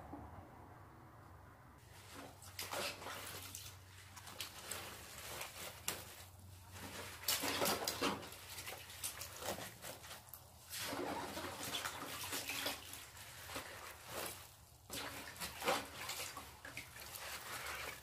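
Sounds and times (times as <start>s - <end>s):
brine splashing: 1.8s - 18.0s
wet cabbage leaves rustling and squeaking: 1.8s - 18.0s.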